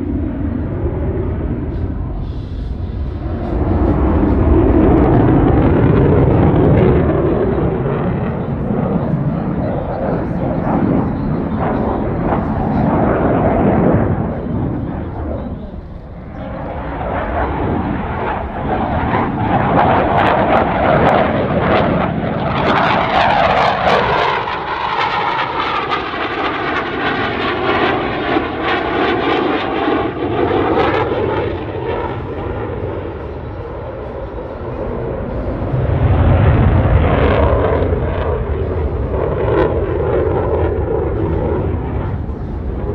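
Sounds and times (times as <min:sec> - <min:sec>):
jet engines roaring: 0:00.0 - 0:42.9
jet whooshing past: 0:00.0 - 0:42.9.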